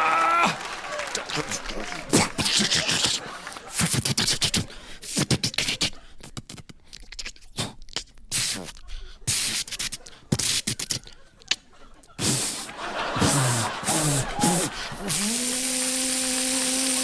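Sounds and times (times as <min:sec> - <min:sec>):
man making mouth sound effects: 0:02.1 - 0:17.0.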